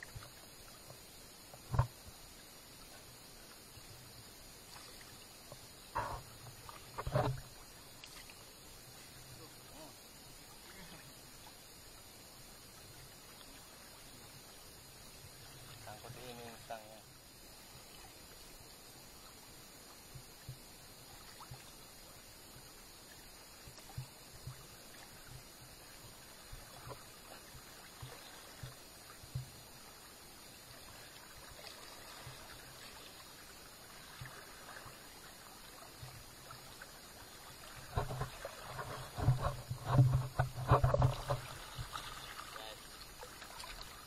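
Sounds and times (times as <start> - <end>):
river water trickling: 0.0 - 44.0
water splashing and sloshing: 0.0 - 44.0.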